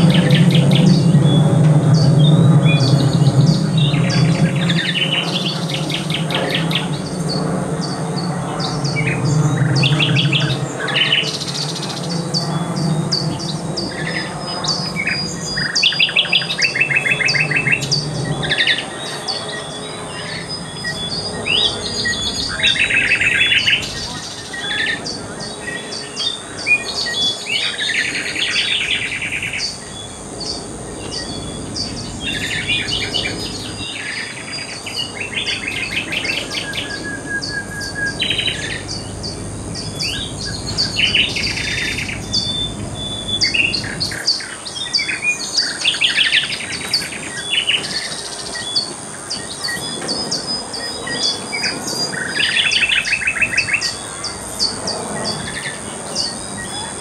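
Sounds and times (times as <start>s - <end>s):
high insect drone: 0.0s - 57.0s
pulsed bird trills: 0.0s - 57.0s.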